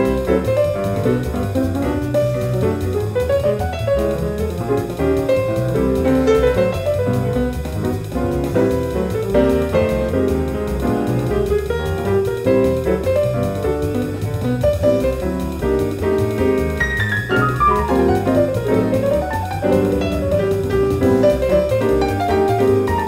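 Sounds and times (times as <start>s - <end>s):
jazz piano: 0.0s - 23.0s.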